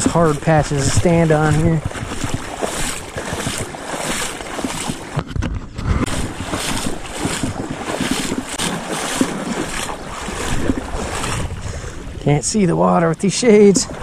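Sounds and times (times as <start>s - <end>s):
water sloshing around wading legs: 0.0s - 12.3s
wind buffeting microphone: 0.0s - 14.0s.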